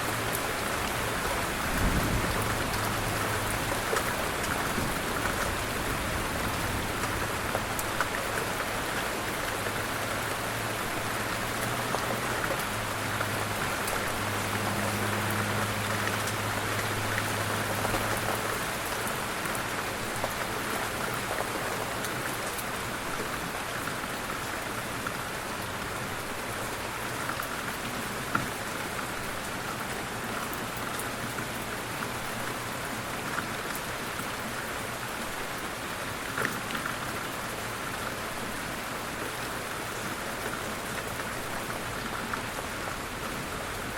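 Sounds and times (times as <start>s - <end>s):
light rain pattering: 0.0s - 43.9s.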